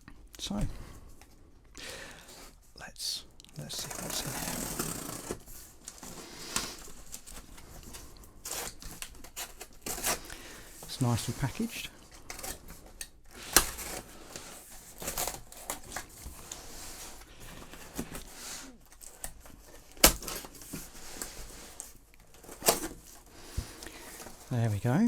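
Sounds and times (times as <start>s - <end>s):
crinkling and rustling packaging: 0.0s - 25.0s.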